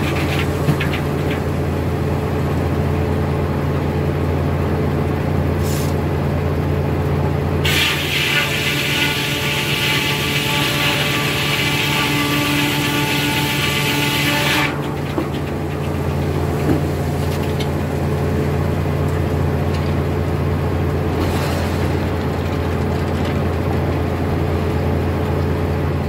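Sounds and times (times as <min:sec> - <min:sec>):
sawmill humming: 0:00.0 - 0:26.0.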